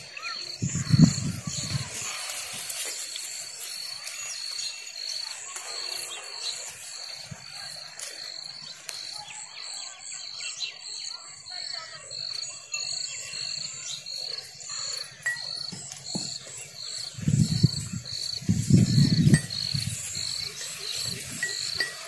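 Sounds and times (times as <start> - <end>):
birds chirping: 0.0 - 22.0
insect chirping rhythmically: 0.0 - 22.0.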